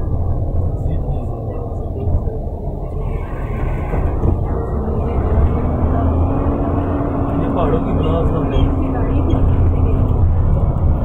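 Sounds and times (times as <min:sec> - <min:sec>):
van engine and tyre rumble: 0:00.0 - 0:11.0.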